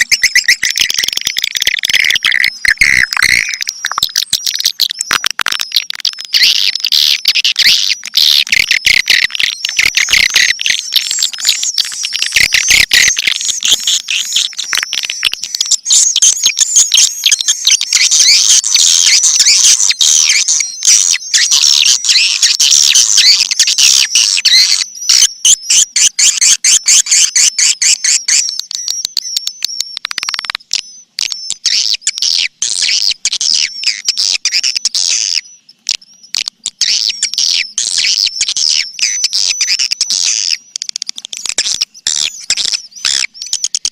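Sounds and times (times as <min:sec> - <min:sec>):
high-pitched twittering chirps: 0:00.0 - 0:43.9.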